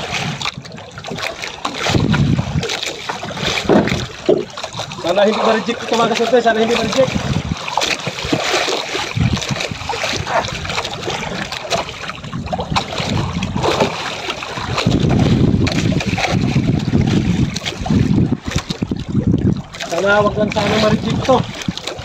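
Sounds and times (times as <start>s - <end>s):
water slapping against boat: 0.0s - 22.0s
wind rumble on microphone: 0.0s - 22.0s.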